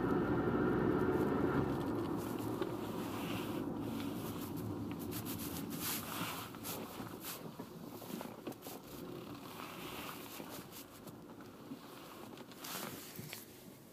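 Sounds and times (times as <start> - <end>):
car engine running: 0.0 - 12.3
dry scratchy crackles: 1.1 - 13.6.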